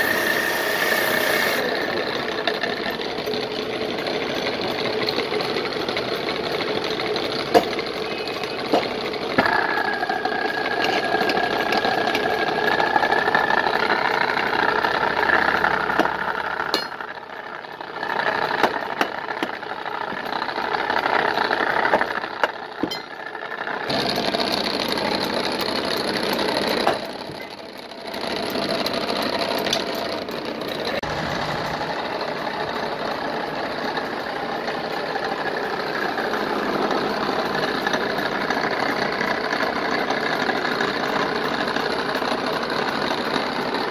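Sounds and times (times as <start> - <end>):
wood lathe running: 0.0 - 43.9.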